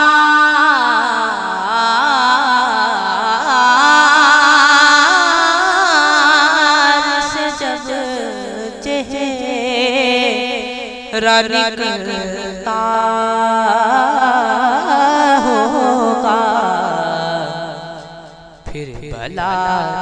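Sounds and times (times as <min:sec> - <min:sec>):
man singing ornamented notes: 0:00.0 - 0:20.0.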